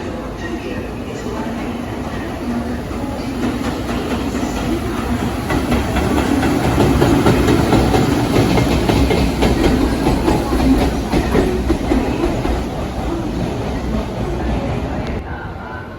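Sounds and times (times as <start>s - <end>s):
freight train passing: 0.0s - 15.9s
wheels clattering on rails: 0.4s - 15.2s.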